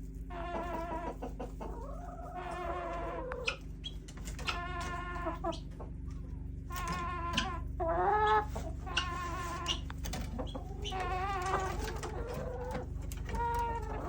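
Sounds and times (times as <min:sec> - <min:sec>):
chickens calling and clucking: 0:00.0 - 0:14.0
steady low hum: 0:00.0 - 0:14.0.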